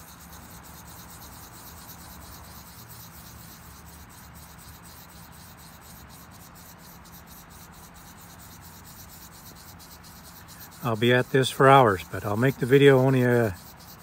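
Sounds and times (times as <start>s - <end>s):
wet sanding stick scrubbing stone: 0.0s - 14.0s.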